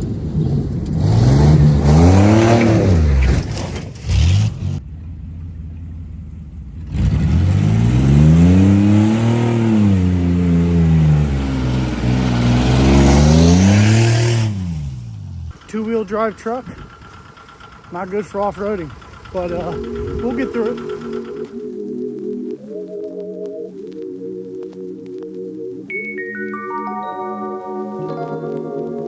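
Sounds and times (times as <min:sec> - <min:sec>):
truck engine revving: 0:00.0 - 0:25.9.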